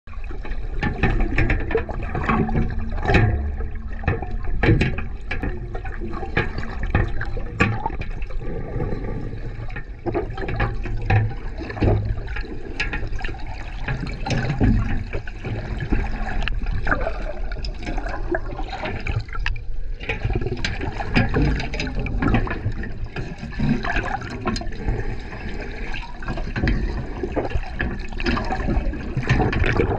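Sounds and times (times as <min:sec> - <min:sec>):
muffled underwater rumble and gurgling: 0:00.1 - 0:29.9.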